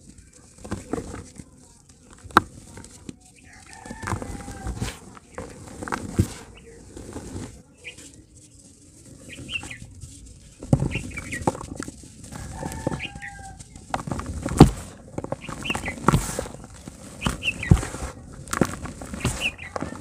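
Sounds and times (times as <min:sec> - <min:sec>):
birds chirping: 0:00.0 - 0:20.0
dry dirt crunching by hand: 0:00.0 - 0:20.0.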